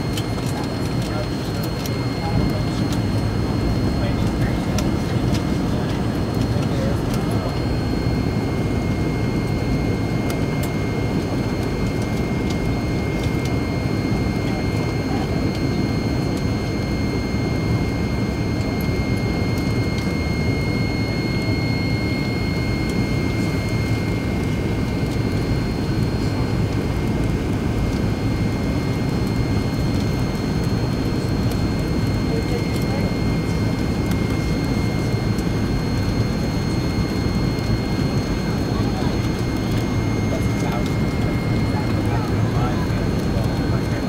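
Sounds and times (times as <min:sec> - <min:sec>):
jet engine cabin rumble: 0:00.0 - 0:44.0
thin high whine: 0:00.0 - 0:44.0.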